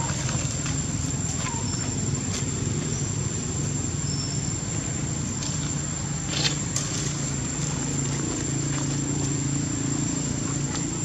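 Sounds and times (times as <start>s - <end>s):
motor engine humming: 0.0s - 11.0s.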